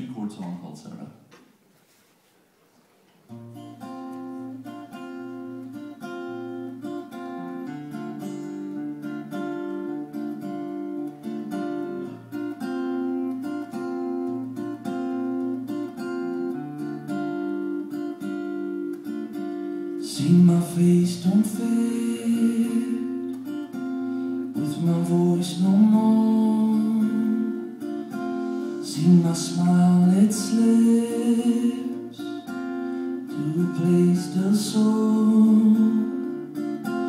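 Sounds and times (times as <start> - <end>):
acoustic guitar strumming: 3.3 - 37.0.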